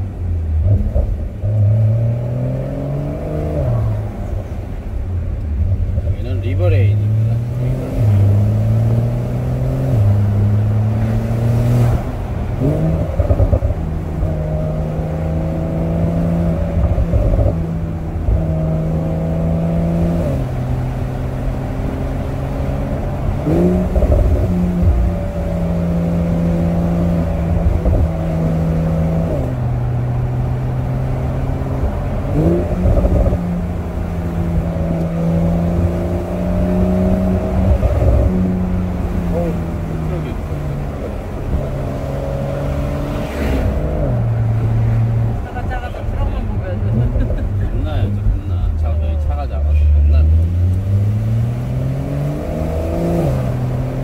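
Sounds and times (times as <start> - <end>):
road noise: 0.0 - 54.0
car engine running: 3.3 - 54.0.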